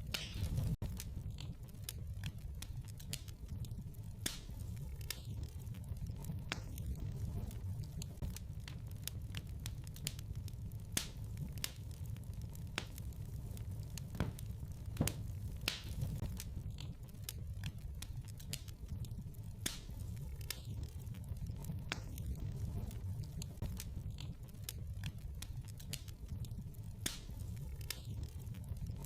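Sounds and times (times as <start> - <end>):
fire crackles and pops: 0.0 - 29.0
low rumble of flames: 0.0 - 29.0.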